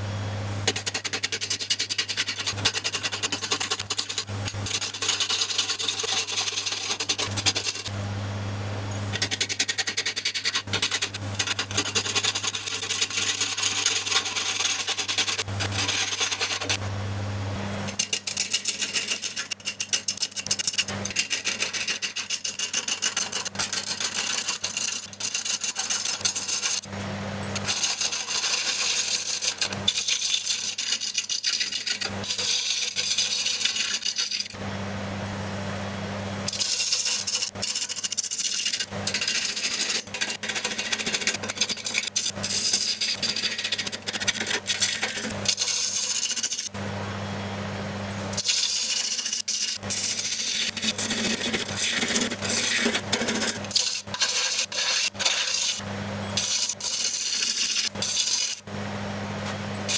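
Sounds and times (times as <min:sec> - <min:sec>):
lathe humming: 0:00.0 - 0:59.9
gouge shaving wood on lathe: 0:00.6 - 0:08.0, 0:09.1 - 0:16.8, 0:17.9 - 0:26.9, 0:27.6 - 0:34.6, 0:36.5 - 0:46.7, 0:48.4 - 0:55.8, 0:56.4 - 0:58.7.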